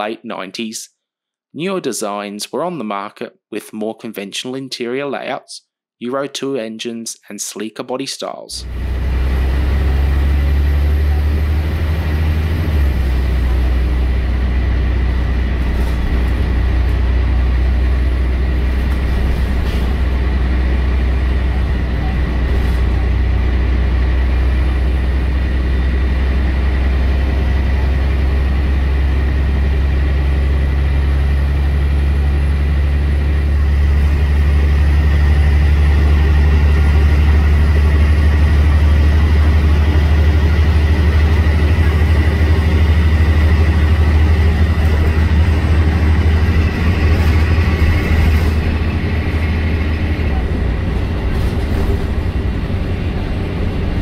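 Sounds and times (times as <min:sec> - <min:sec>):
bus diesel engine drone: 0:08.6 - 0:54.0.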